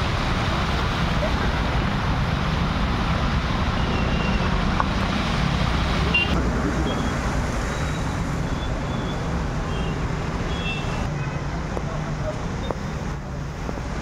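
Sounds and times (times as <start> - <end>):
car and motorbike engines rumbling: 0.0 - 14.0.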